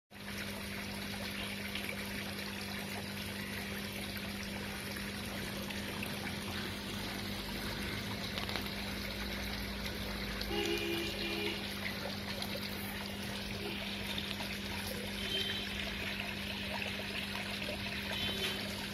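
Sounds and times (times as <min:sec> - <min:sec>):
water trickling into pond: 0:00.1 - 0:18.9.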